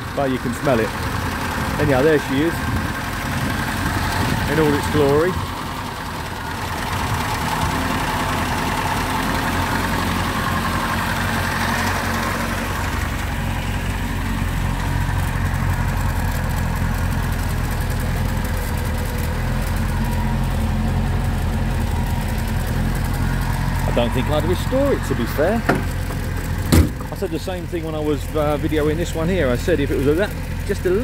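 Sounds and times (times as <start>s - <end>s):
petrol engine idling: 0.0s - 31.0s.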